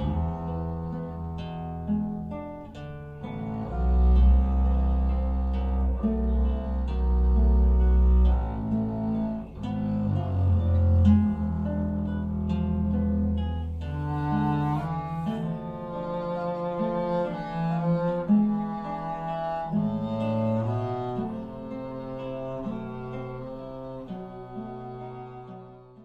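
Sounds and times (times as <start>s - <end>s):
low string notes: 0.0s - 26.0s.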